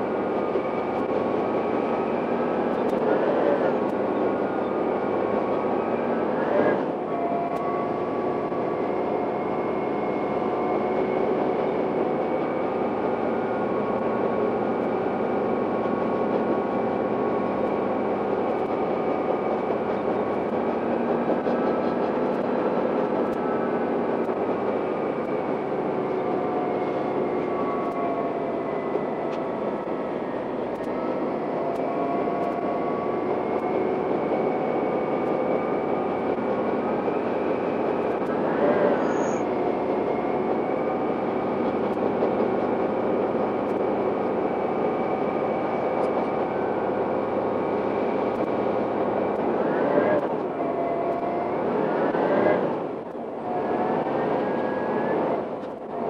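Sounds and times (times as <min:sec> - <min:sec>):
railcar engine drone: 0:00.0 - 0:56.0.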